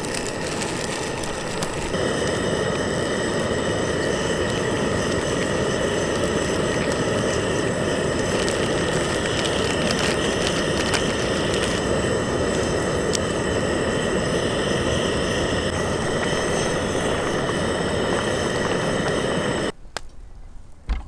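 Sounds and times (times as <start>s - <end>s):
food frying crackles: 0.0s - 19.8s
gas stove burner rushing: 0.0s - 19.8s.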